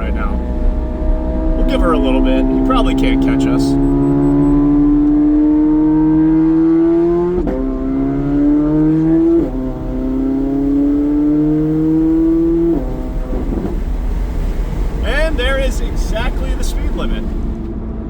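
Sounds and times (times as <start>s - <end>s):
quick gear upshifts: 0.0s - 18.0s
sports car accelerating hard: 0.0s - 18.0s.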